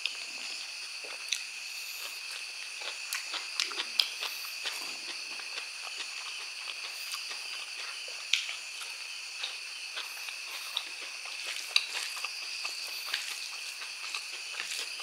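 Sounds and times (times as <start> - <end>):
insects droning: 0.0 - 15.0
wet chewing and lip smacks: 0.0 - 15.0.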